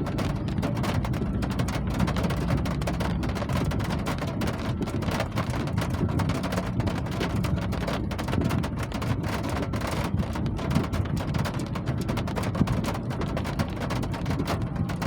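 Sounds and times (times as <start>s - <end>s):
low rumble: 0.0s - 15.0s
raindrops tapping on hard surface: 0.0s - 15.0s.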